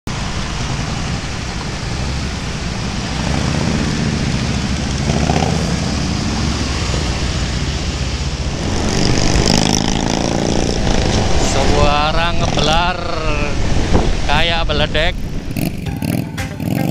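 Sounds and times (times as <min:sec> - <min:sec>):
motorcycle engines rumbling: 0:00.0 - 0:16.9
road noise: 0:00.0 - 0:16.9.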